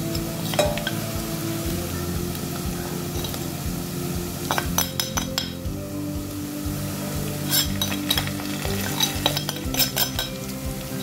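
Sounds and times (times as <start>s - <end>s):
oil and onions frying: 0.0s - 11.0s.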